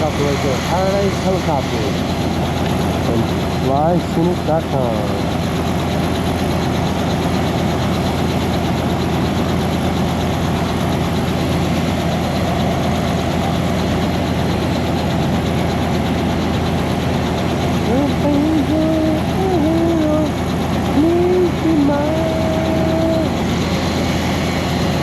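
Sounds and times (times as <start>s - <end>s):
helicopter turbine and rotor running: 0.0s - 25.0s.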